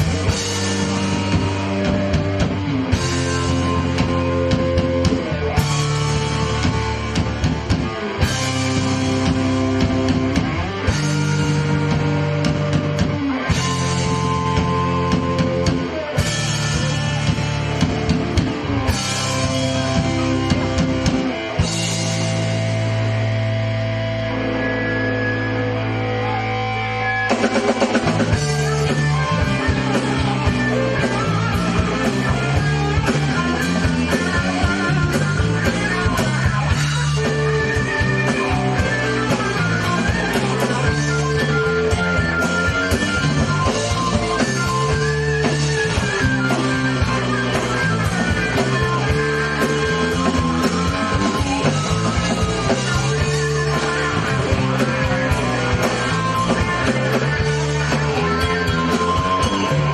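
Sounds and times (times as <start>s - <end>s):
instrumental rock band: 0.0s - 59.9s.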